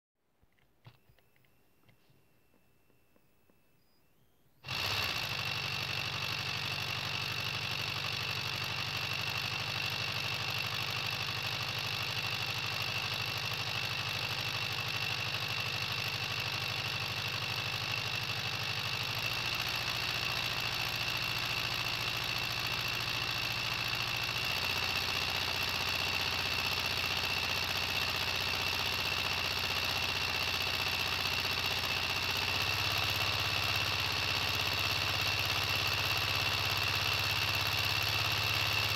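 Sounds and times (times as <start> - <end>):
diesel engine idling: 4.6 - 38.9.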